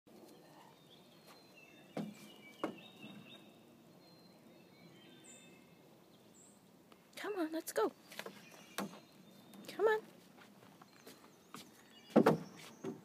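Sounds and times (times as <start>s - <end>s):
faint birdsong: 0.1s - 13.0s.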